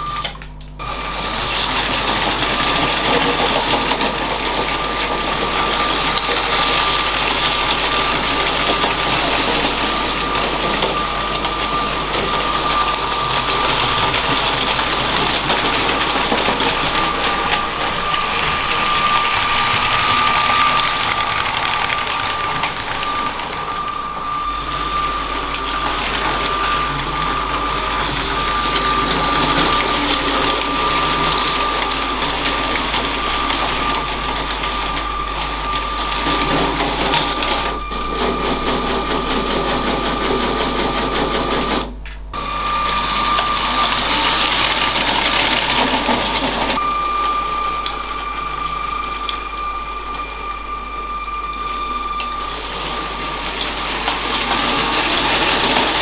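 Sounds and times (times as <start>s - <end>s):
electric motor whine: 0.0s - 56.0s
toy train wheels rattling: 1.4s - 41.3s, 51.0s - 56.0s.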